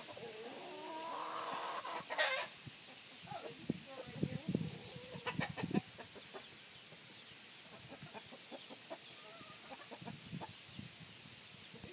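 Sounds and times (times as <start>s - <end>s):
chickens clucking: 0.0s - 10.9s.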